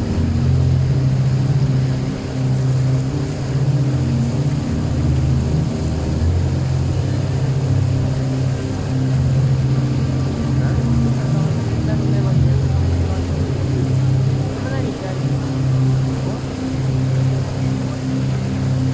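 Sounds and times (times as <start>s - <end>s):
boat engine droning: 0.0s - 18.9s.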